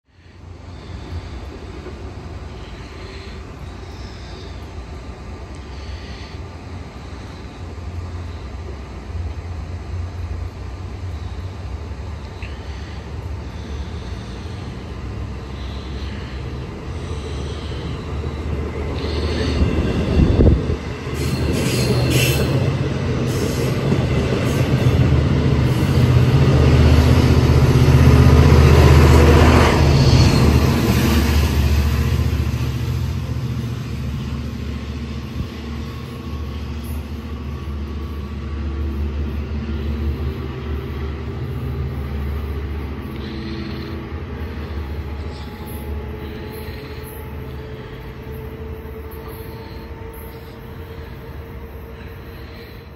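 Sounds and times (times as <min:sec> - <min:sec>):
diesel locomotive engine: 0:00.0 - 0:52.9
train passing: 0:00.1 - 0:52.9.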